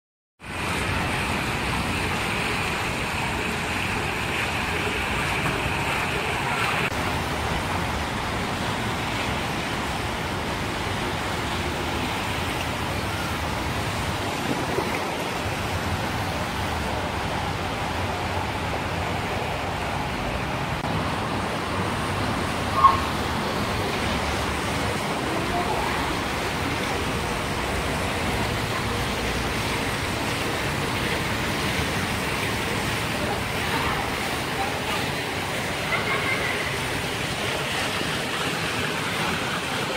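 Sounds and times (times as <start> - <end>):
water rushing over stone ledges: 0.4 - 39.9.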